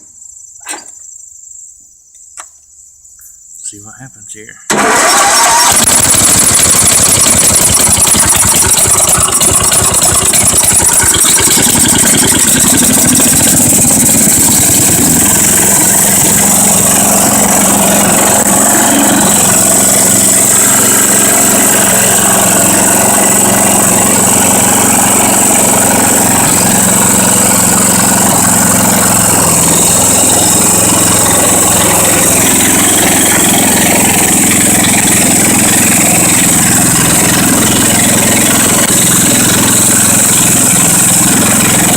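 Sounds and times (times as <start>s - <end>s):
small engine starting and running: 4.7s - 41.9s.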